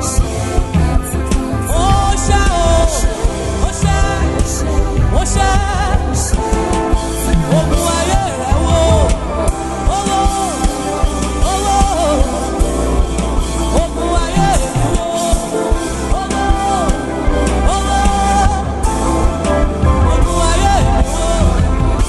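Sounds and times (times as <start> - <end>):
gospel music with steady beat: 0.0 - 22.0
person singing: 0.0 - 22.0.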